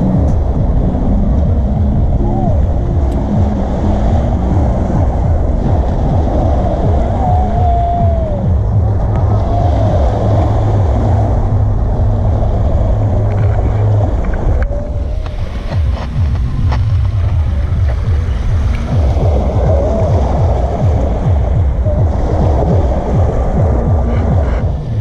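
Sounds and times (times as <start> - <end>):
waves washing on pebbly shore: 0.0 - 25.0
wind buffeting microphone: 0.0 - 25.0.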